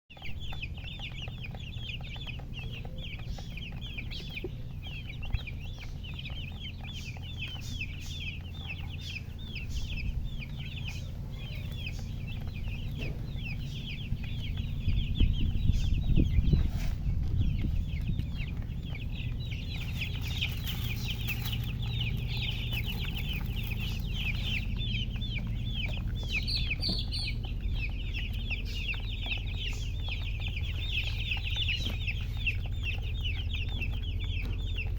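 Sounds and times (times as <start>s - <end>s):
baby chicks peeping: 0.1s - 34.9s
low rumble: 0.2s - 34.9s.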